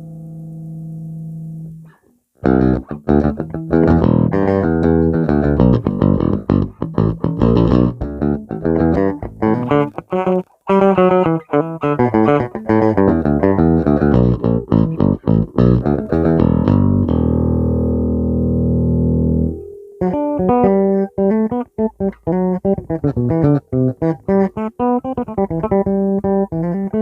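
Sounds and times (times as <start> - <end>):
electric bass plucked notes: 0.0 - 27.0.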